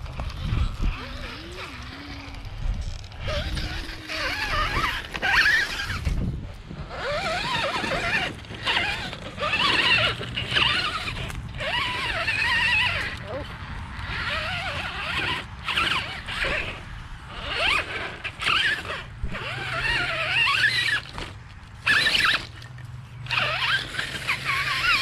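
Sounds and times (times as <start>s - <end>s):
toy car motor whining: 0.0s - 25.0s.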